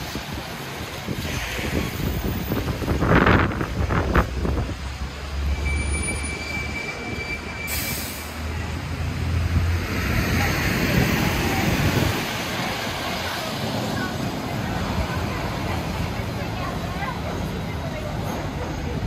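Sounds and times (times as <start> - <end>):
heavy vehicle rumbling past: 0.0 - 19.0
traffic noise: 0.0 - 19.0.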